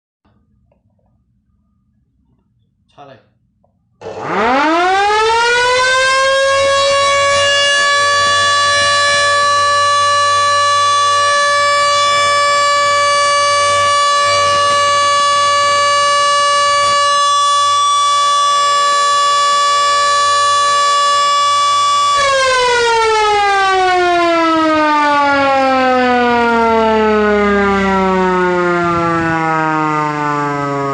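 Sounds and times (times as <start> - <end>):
alarm siren wailing: 4.0 - 30.9.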